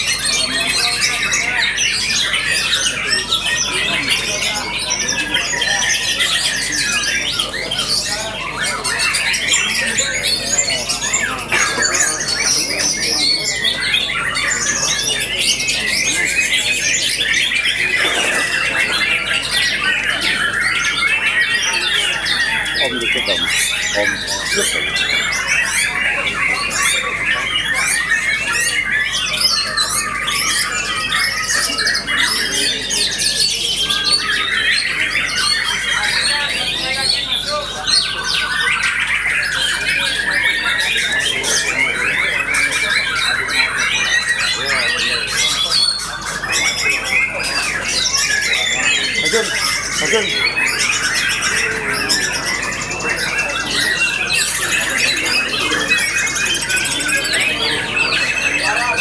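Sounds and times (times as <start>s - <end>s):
birds singing in chorus: 0.0s - 59.0s.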